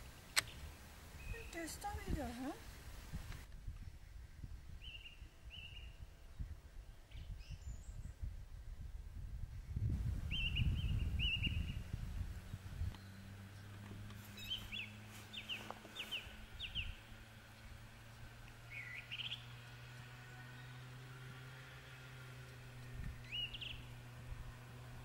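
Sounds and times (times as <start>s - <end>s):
birds chirping: 0.0s - 3.0s, 4.7s - 8.3s, 10.2s - 25.0s
wind rumble on microphone: 0.0s - 25.0s.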